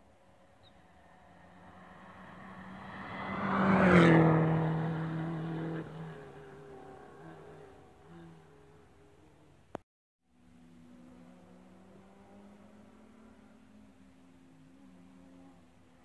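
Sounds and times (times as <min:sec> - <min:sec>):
rally car passing at speed: 0:00.3 - 0:09.7, 0:10.4 - 0:16.0.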